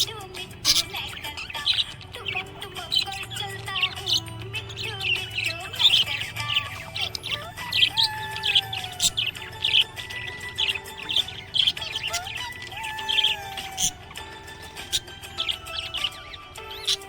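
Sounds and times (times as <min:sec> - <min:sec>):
parrots chirping: 0:00.0 - 0:17.0.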